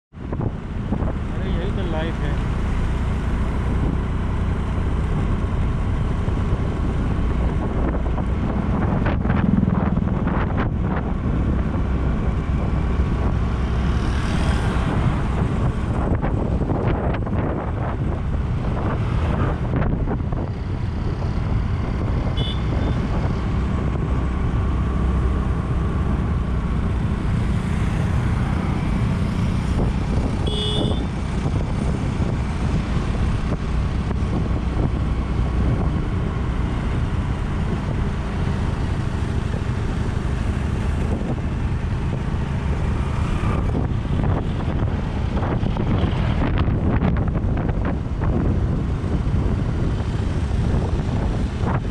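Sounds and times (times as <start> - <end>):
road vehicle rumble: 0.1 - 51.9
wind buffeting microphone: 5.1 - 51.9.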